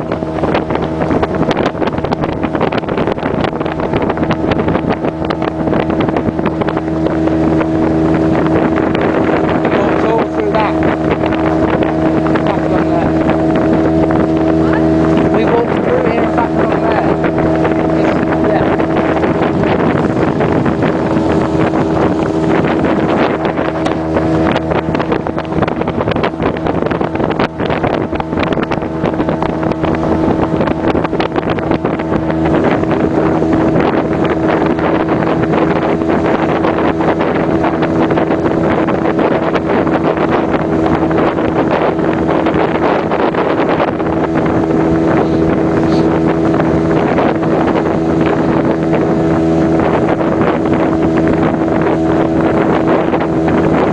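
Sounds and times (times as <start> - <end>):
outboard engine running: 0.0 - 53.9
wind buffeting microphone: 0.0 - 53.9.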